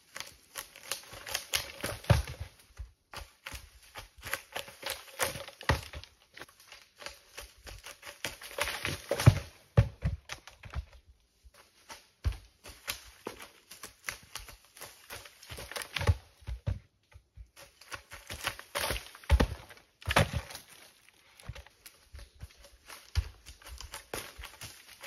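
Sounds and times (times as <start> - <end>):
logs crackling through brush: 0.0 - 25.0.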